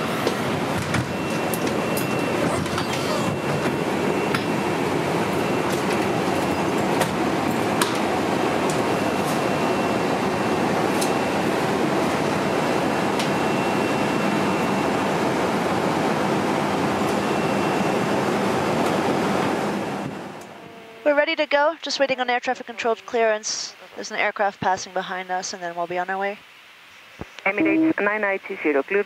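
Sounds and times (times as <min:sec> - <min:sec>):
rushing air-conditioning noise: 0:00.0 - 0:24.8
faint high whine: 0:01.0 - 0:29.0.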